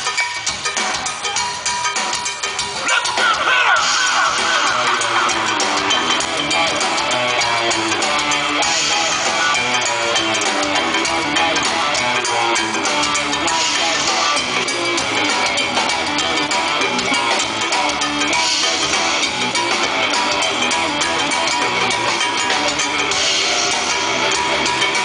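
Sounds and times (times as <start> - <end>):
rock band playing live: 0.0 - 25.0
high wavering guitar line: 2.7 - 25.0.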